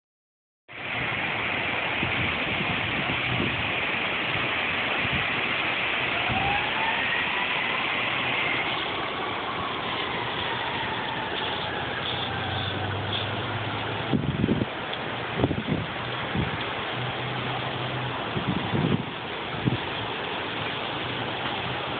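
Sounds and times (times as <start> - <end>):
steady rushing noise: 0.7 - 21.9
vehicle engine humming: 3.0 - 21.9.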